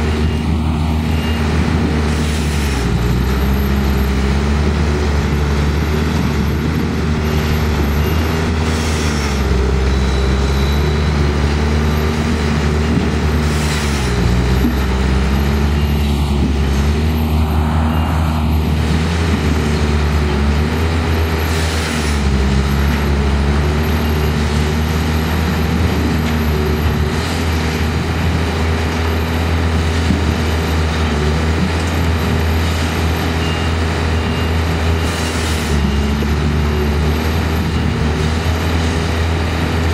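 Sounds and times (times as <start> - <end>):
heavy machine engines under load: 0.0 - 39.9.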